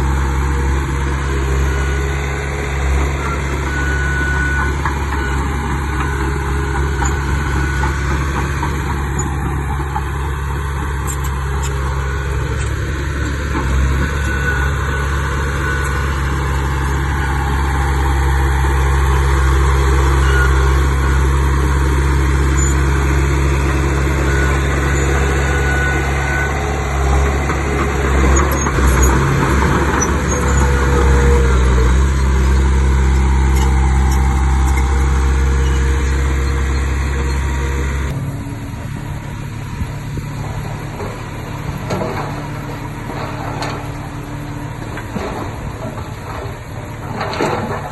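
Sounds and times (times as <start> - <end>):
diesel earthmoving machinery: 0.0 - 47.9.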